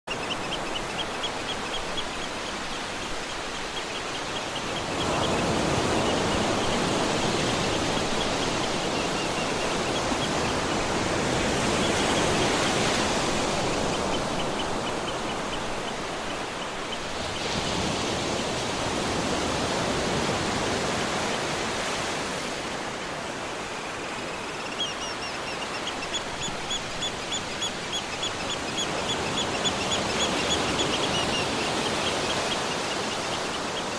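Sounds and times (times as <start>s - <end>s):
small birds chirping: 0.1s - 17.6s, 23.0s - 33.9s.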